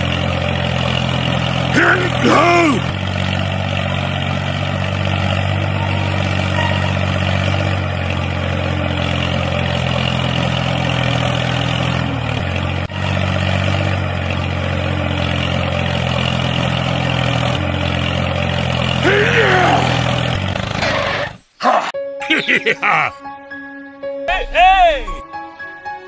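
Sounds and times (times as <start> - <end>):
tractor engine running: 0.0 - 21.3.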